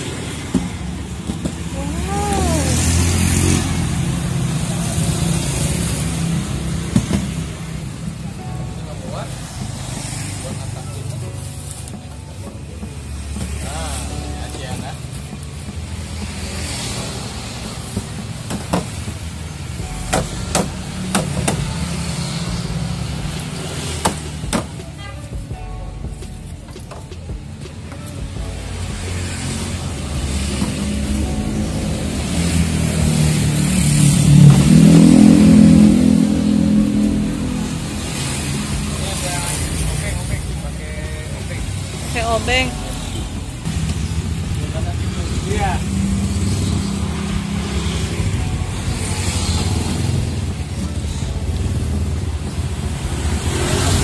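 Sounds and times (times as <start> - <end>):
vehicle engine rumble passing: 0.0 - 54.0.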